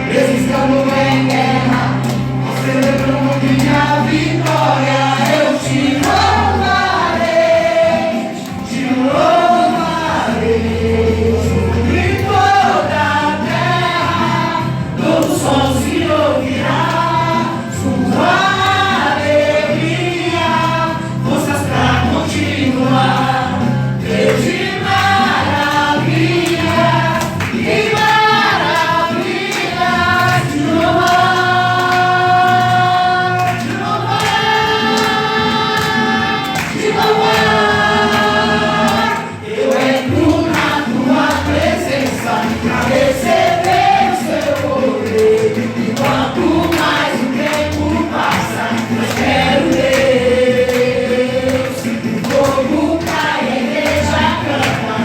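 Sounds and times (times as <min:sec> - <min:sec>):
choir singing: 0:00.0 - 0:55.0
instrumental accompaniment with bass: 0:00.0 - 0:55.0.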